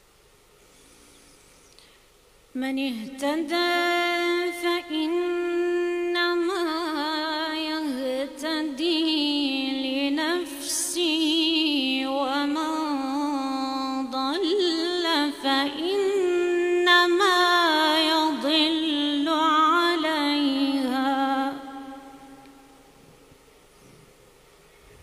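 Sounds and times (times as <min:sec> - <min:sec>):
woman chanting recitation: 0:02.5 - 0:22.7.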